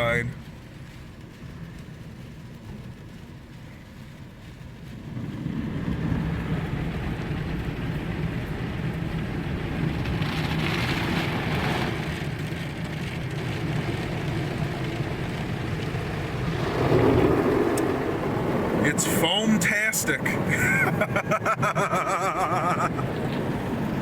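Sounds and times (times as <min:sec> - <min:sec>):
car wash machine humming: 0:00.0 - 0:24.0
water spray hissing on car: 0:00.0 - 0:24.0.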